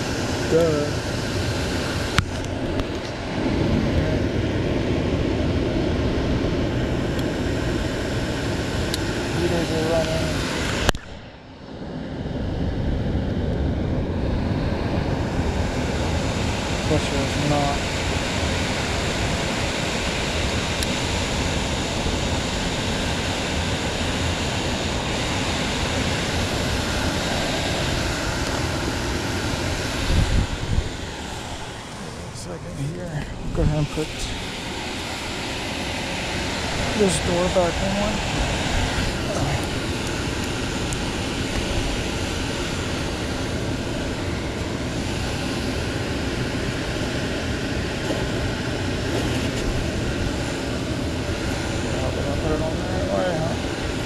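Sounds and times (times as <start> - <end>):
fan rushing: 0.0 - 54.0
hvac hum and rumble: 0.0 - 54.0.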